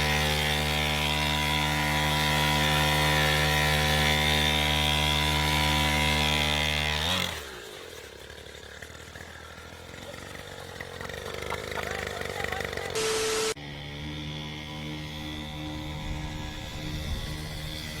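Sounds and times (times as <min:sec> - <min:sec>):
dirt bike two-stroke engine: 0:00.0 - 0:18.0.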